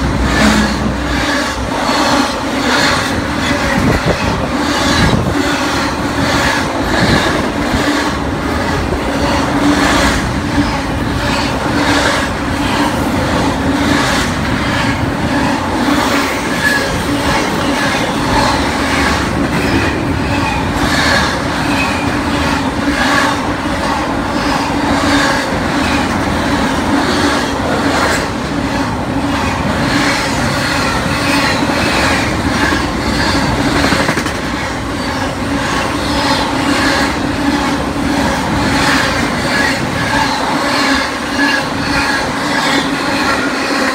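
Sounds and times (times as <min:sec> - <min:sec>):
train wheels clattering over rails: 0:00.0 - 0:43.9.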